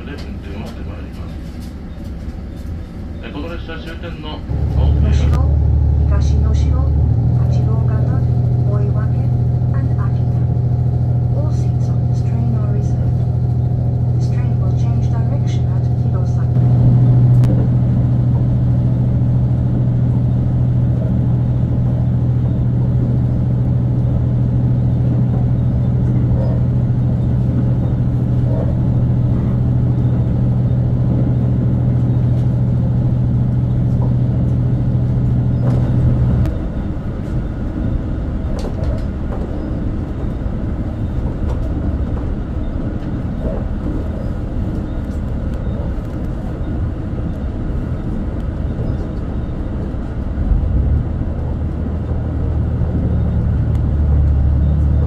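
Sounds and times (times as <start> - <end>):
train low drone: 0.0 - 55.0
train running rumble: 0.0 - 55.0.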